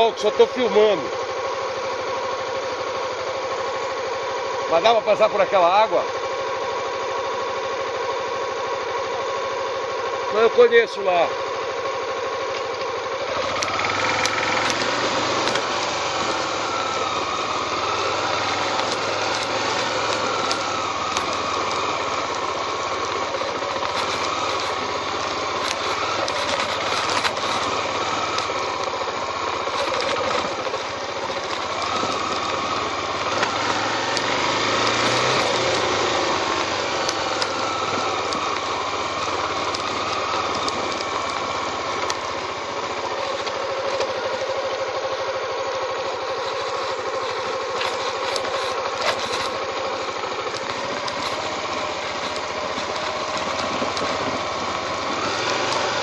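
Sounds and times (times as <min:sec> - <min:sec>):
small motorcycle engine revving: 0:00.0 - 0:56.0.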